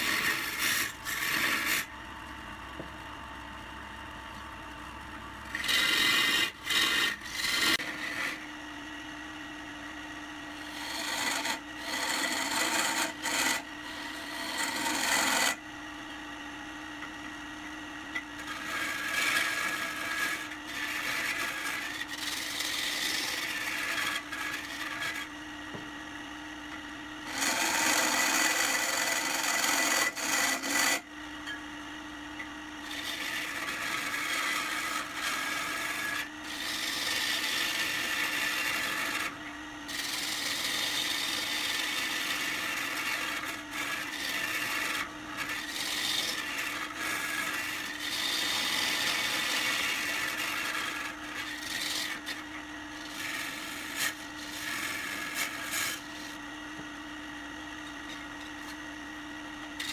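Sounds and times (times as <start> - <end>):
tool scraping spinning wood: 0.0 - 9.2, 10.2 - 15.6, 18.1 - 26.1, 26.7 - 31.6, 32.7 - 59.9
lathe humming: 0.0 - 59.9.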